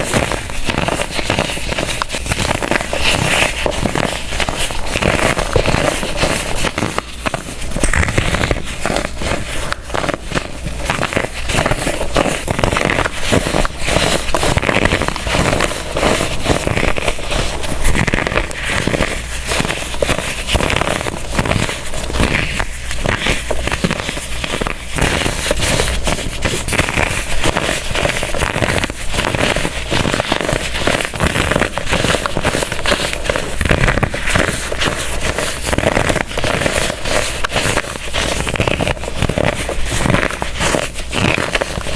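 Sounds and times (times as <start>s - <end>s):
blocks crunching and crackling: 0.0s - 41.9s.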